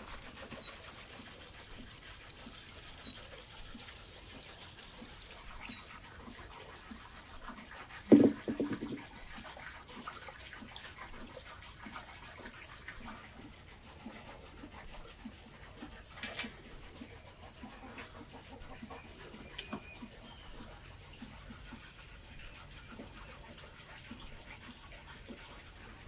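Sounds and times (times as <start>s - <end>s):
water sloshing in a steel bowl: 0.2s - 26.0s.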